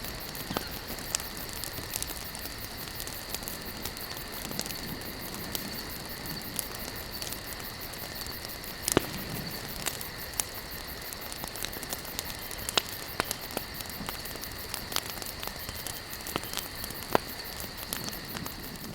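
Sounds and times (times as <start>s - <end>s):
campfire crackling and popping: 0.0s - 18.9s.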